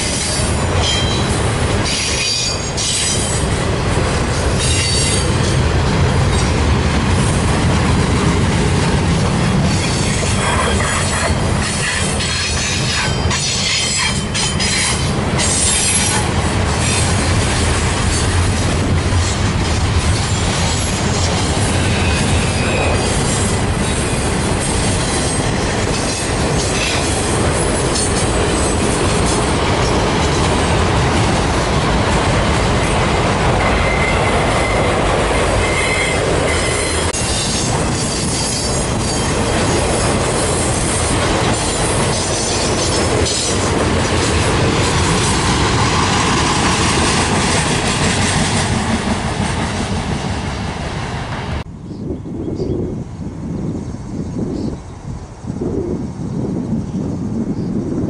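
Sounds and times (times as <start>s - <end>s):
train wheels rumbling and rattling: 0.0s - 58.0s.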